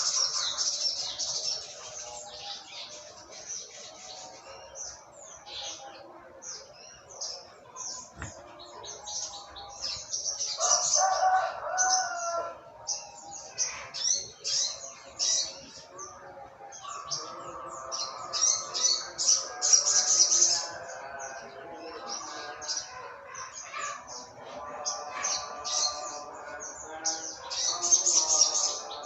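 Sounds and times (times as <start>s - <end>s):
songbird chirps and trills: 0.0s - 29.0s.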